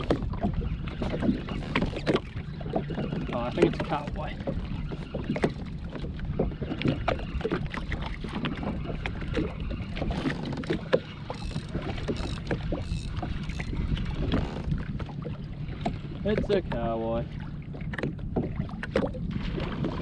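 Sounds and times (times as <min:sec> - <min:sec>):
waves slapping against hull: 0:00.0 - 0:20.0
wind rumble on microphone: 0:00.0 - 0:20.0.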